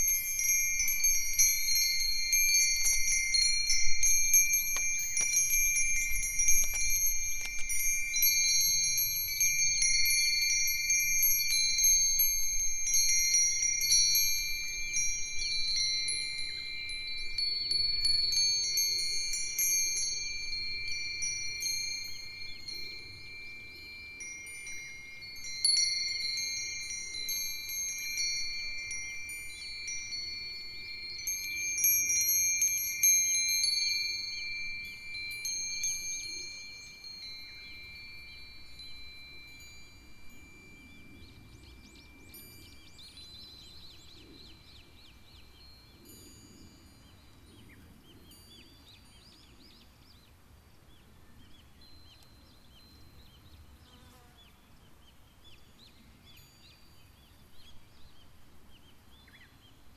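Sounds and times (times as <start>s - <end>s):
low rumble of wind: 0.0s - 53.8s
wind chimes ringing: 0.0s - 59.9s.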